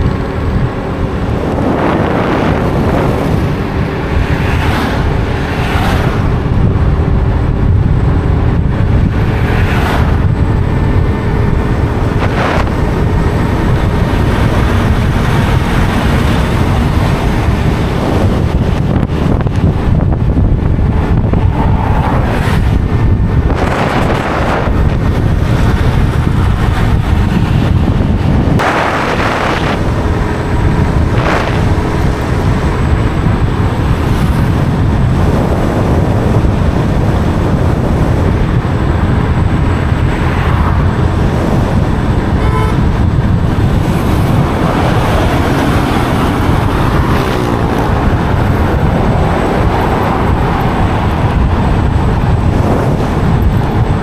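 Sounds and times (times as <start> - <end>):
road vehicle rumble: 0.0 - 54.0
wind buffeting microphone: 0.0 - 54.0.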